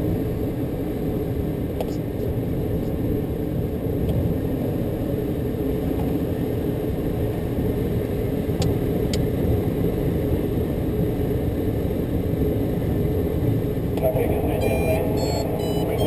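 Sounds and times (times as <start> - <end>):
airflow rushing around cockpit: 0.0 - 16.0.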